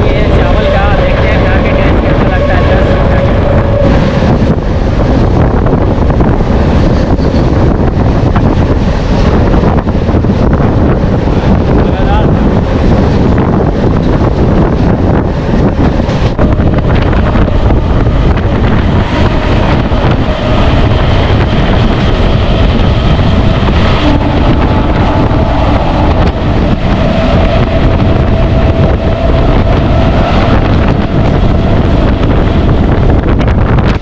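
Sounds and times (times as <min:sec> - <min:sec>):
train rumbling on track: 0:00.0 - 0:34.0
wind buffeting microphone: 0:00.0 - 0:34.0.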